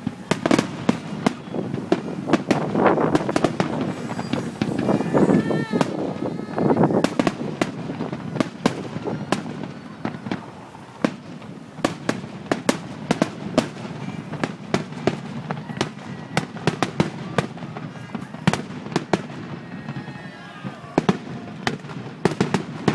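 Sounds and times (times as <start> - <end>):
fireworks bangs and crackling pops: 0.0 - 22.9.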